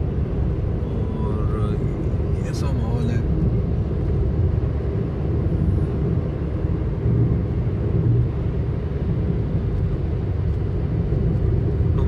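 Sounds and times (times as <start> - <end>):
car cruising road and engine noise: 0.0 - 12.0.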